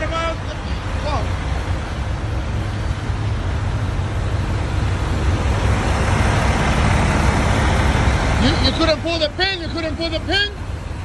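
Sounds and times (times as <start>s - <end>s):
truck engine rumble: 0.0s - 11.0s.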